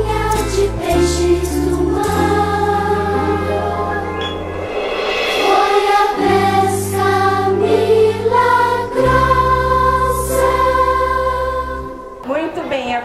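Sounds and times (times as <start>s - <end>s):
choir singing: 0.0s - 12.2s
instrumental accompaniment: 0.0s - 12.2s.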